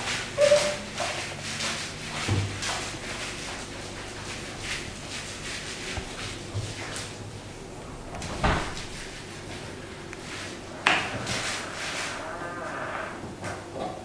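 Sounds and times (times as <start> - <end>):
paint roller swishing: 0.0 - 8.1, 8.7 - 13.4.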